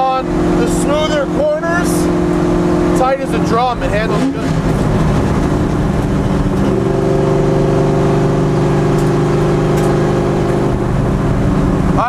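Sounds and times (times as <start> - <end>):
loud car exhaust from inside cabin: 0.0 - 12.0.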